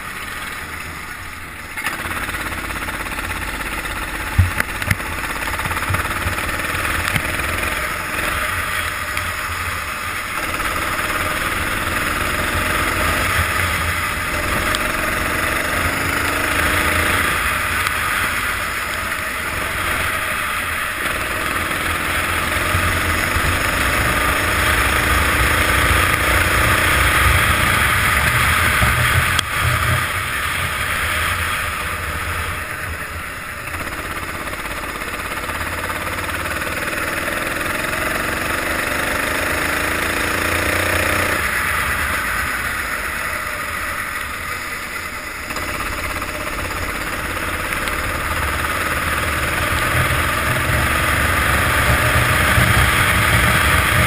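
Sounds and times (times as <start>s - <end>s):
kart engine accelerating: 0.0s - 54.0s.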